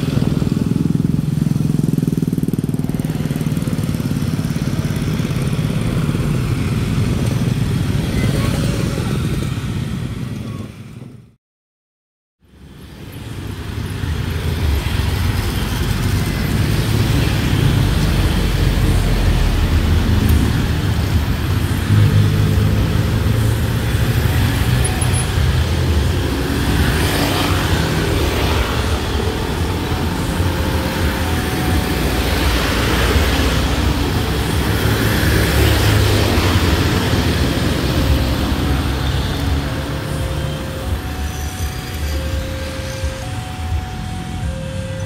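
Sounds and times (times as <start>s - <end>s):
cars and scooters passing: 0.0s - 11.4s, 12.5s - 45.0s.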